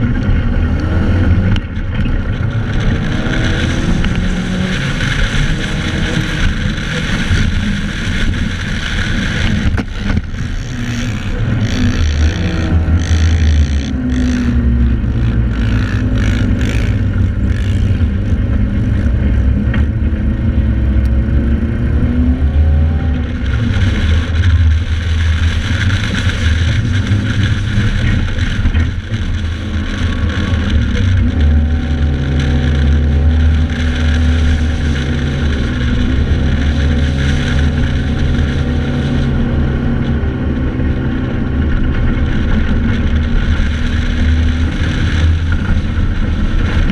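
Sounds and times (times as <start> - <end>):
dune buggy engine revving: 0.0 - 46.9.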